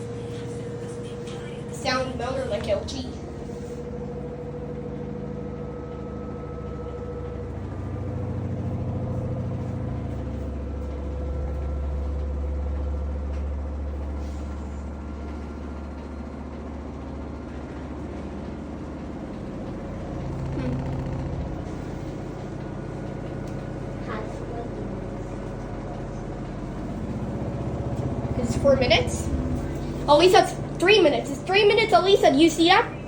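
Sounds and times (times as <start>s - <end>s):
washing machine spinning: 0.0s - 33.0s.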